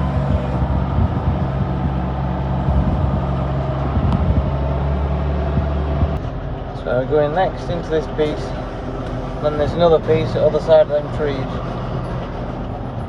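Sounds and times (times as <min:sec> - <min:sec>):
faint rattling: 0:00.0 - 0:13.0
tractor engine running: 0:00.0 - 0:13.0.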